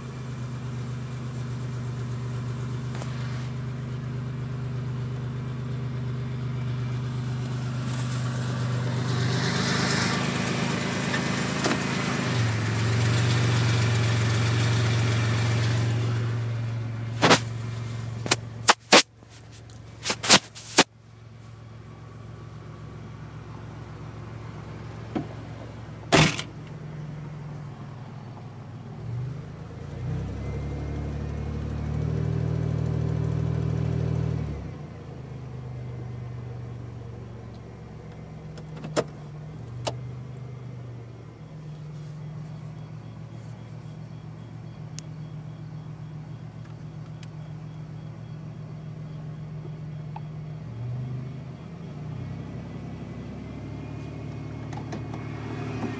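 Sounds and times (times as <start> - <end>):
car engine with exhaust leak: 0.0 - 55.9.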